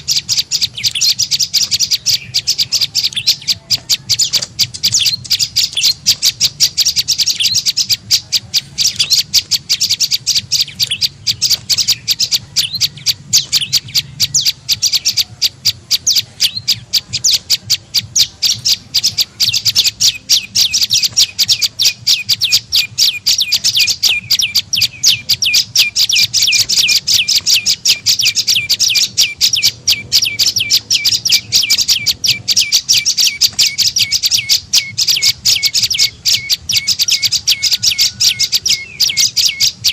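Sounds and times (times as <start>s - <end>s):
bird chattering high notes: 0.0s - 39.9s.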